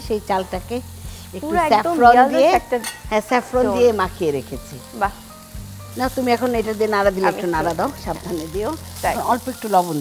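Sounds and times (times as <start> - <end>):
food sizzling in wok: 0.0 - 10.0.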